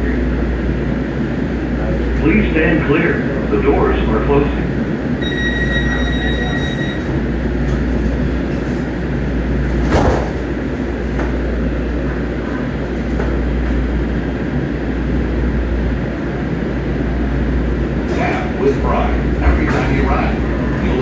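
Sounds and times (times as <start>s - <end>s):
train low hum and rumble: 0.0s - 21.0s.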